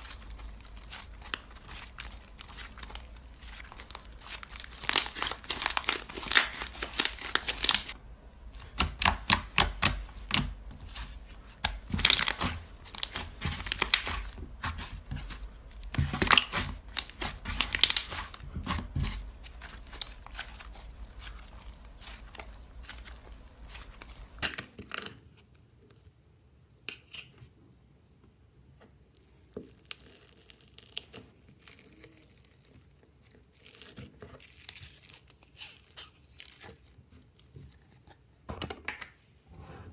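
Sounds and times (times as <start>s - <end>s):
slime crackling and popping: 0.0s - 24.7s, 29.6s - 37.6s.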